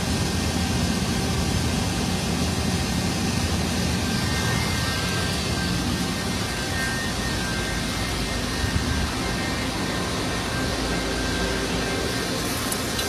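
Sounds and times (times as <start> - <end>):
machinery humming with high whine: 0.0 - 13.0.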